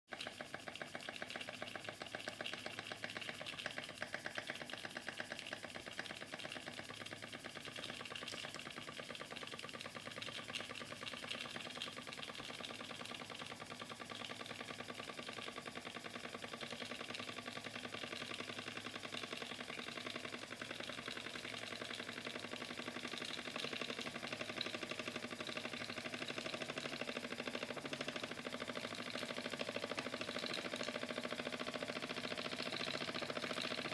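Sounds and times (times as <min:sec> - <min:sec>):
toy steam engine chuffing: 0:00.1 - 0:33.9.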